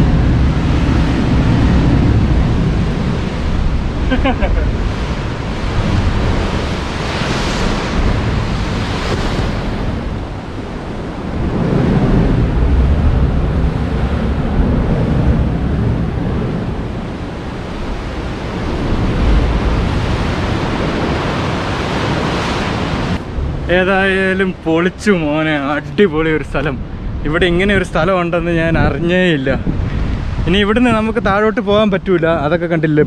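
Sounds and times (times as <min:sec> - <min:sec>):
sea waves surging in a cave: 0:00.0 - 0:32.8.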